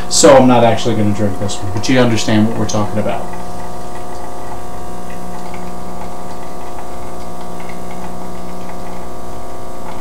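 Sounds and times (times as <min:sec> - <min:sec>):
espresso machine pump running: 0:00.0 - 0:10.0.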